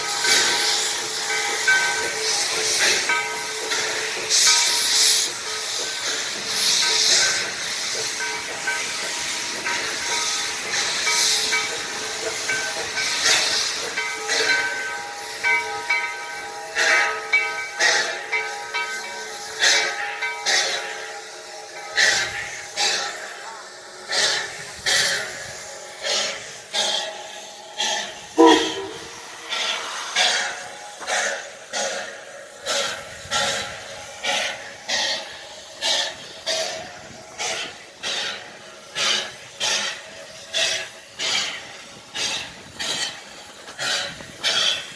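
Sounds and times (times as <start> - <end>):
steam locomotive hissing: 0.0 - 44.9.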